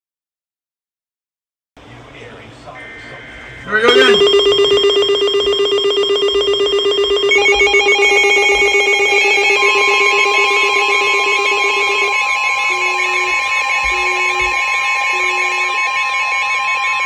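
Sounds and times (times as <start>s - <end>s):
steady alarm tones: 2.7s - 17.0s
fast-trilling alarm tone: 2.8s - 17.0s
weather radio warning tone: 2.8s - 17.0s.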